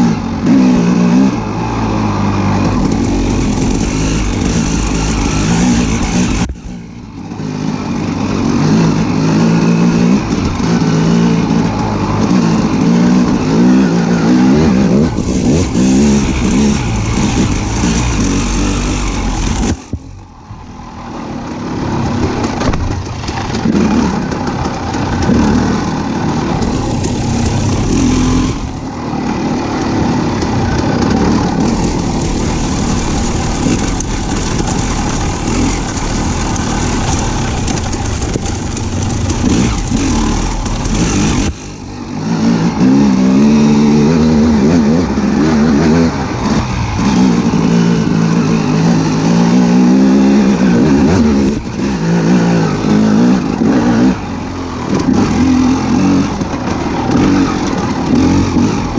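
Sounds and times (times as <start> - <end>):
engine revving: 0.0 - 58.9.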